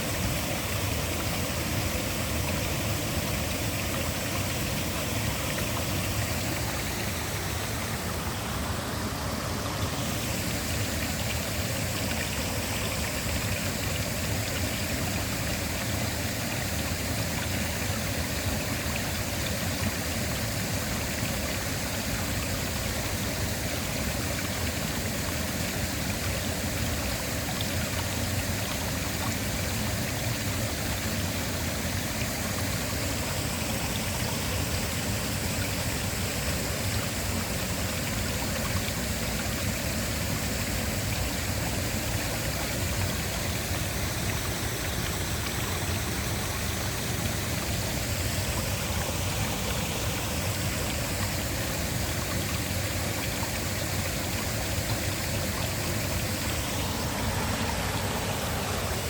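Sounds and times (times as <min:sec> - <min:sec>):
waterfall rushing: 0:00.0 - 0:17.6, 0:28.1 - 0:59.0.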